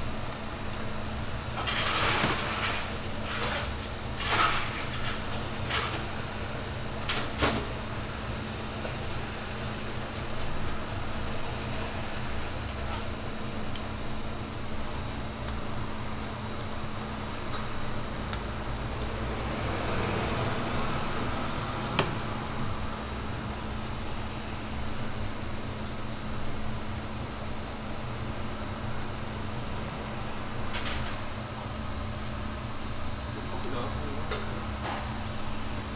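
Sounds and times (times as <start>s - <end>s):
bread sizzling on griddle: 0.0s - 35.9s.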